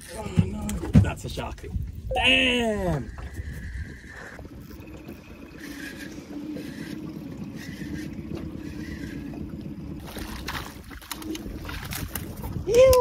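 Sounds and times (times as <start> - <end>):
wind: 0.0 - 13.0
water lapping: 2.6 - 13.0.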